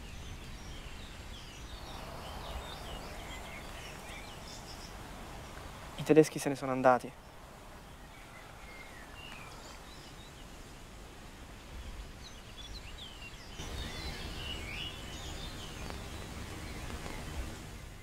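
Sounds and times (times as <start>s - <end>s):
small birds chirping: 0.0s - 18.0s
steady low background noise: 0.0s - 18.0s.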